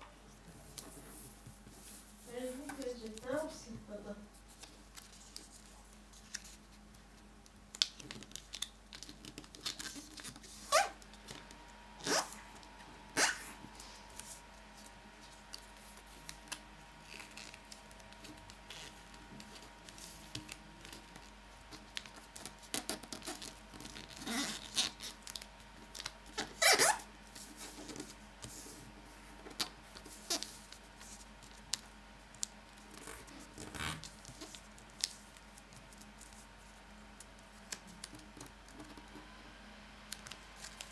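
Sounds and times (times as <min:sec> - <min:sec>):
paper rustling and creasing: 0:04.3 - 0:39.0.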